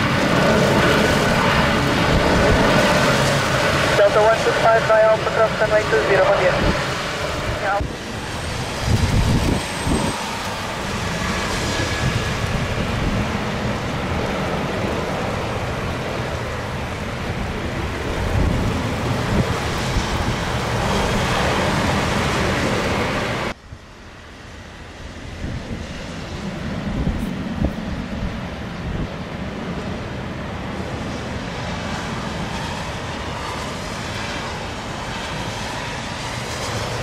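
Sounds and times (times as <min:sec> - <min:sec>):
wind buffeting microphone: 0:00.0 - 0:04.4, 0:06.2 - 0:23.9, 0:24.5 - 0:37.0
jet engines running: 0:00.0 - 0:37.0.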